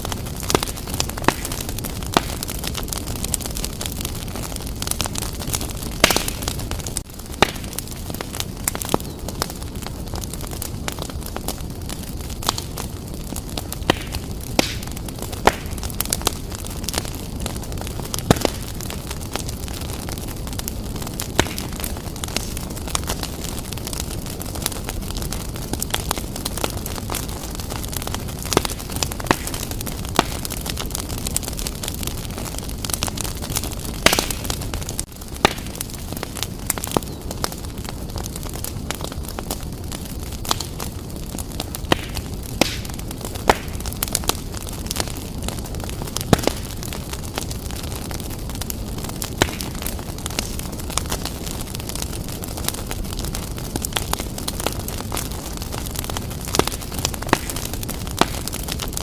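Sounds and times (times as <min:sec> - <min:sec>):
burning logs crackling and popping: 0:00.0 - 0:59.0
low rumble of fire flames: 0:00.0 - 0:59.0.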